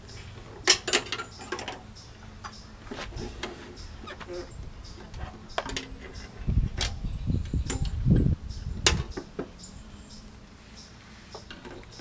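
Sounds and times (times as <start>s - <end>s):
clicks and knocks of engine parts: 0.0s - 4.3s, 4.9s - 9.6s, 11.3s - 12.0s.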